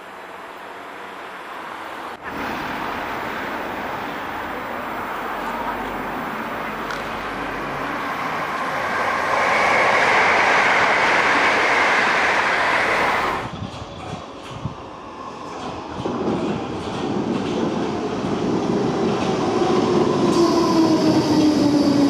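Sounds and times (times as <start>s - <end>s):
train wheels rumbling on rails: 2.1s - 22.0s.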